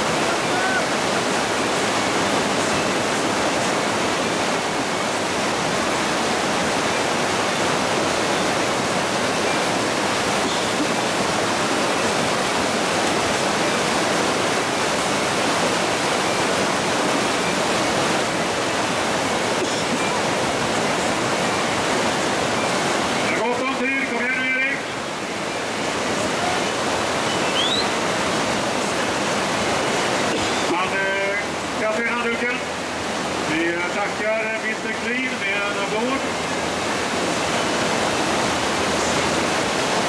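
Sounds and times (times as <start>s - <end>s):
river rapids rushing: 0.0s - 40.0s.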